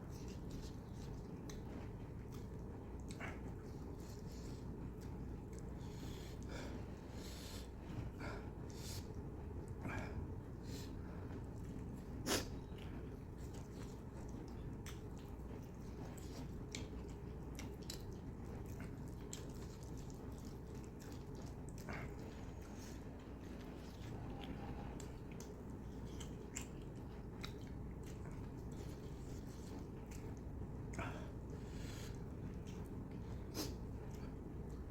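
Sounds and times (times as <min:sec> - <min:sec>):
person chewing food: 0:00.0 - 0:34.9.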